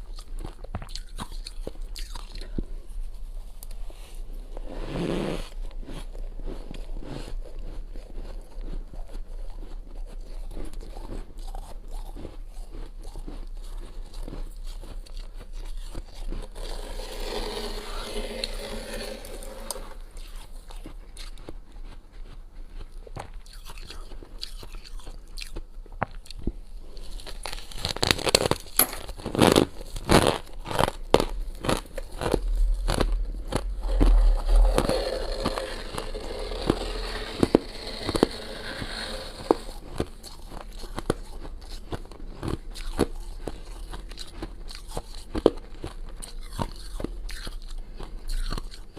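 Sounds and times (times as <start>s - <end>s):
ice being chewed with crunches: 0.0s - 48.9s.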